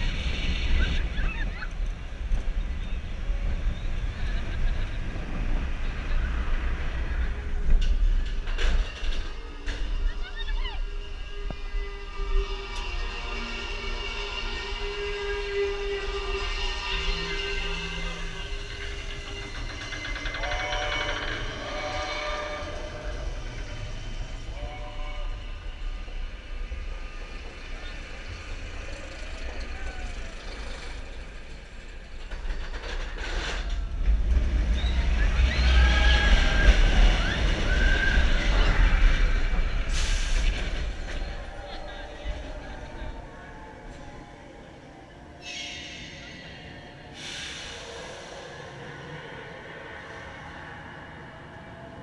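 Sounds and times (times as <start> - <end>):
roller coaster rattle: 0.0 - 44.3
roller coaster rumbling on track: 0.0 - 52.0.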